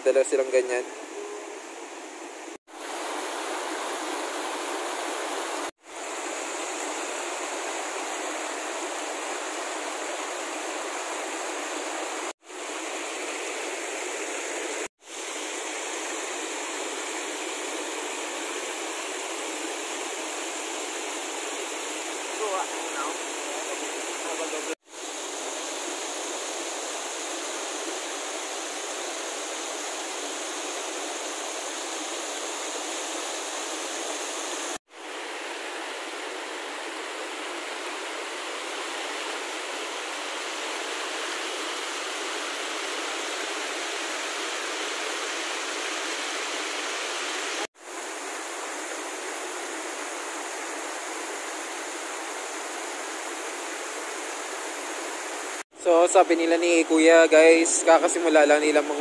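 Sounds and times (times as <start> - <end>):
stream pouring over rocks: 0.0 - 59.0.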